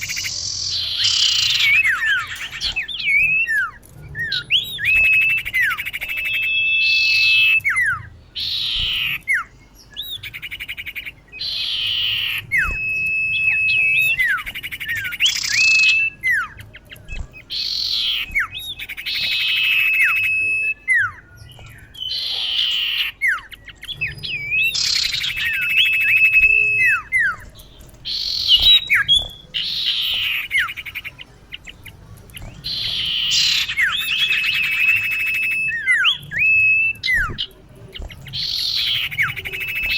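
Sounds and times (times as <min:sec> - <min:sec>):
bird calling with chatter and whistles: 0:00.0 - 0:39.9.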